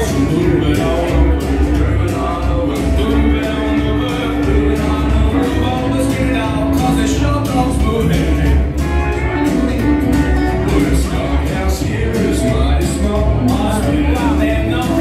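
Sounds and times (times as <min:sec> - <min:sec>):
dance song with singer: 0:00.0 - 0:15.0.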